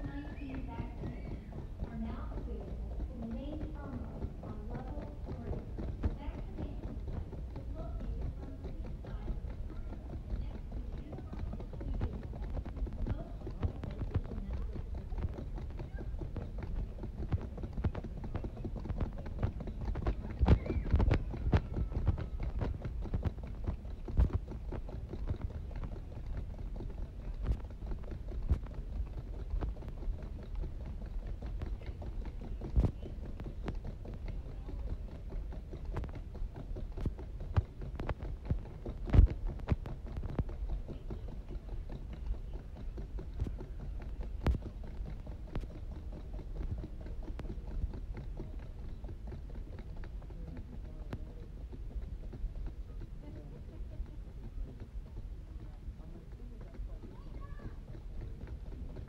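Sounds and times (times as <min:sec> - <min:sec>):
low steady rumble: 0:00.0 - 0:59.0.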